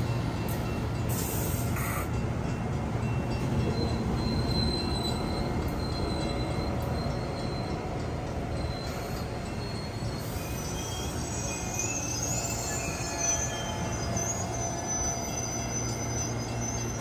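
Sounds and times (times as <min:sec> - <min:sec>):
train wheels rumbling on rail: 0:00.0 - 0:17.0
faint high wheel squeal: 0:00.1 - 0:02.3, 0:03.1 - 0:17.0.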